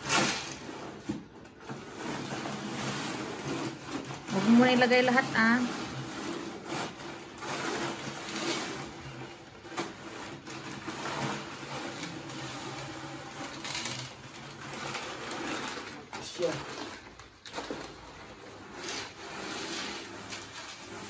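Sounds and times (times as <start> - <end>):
plastic bag rustling: 0.0 - 21.0.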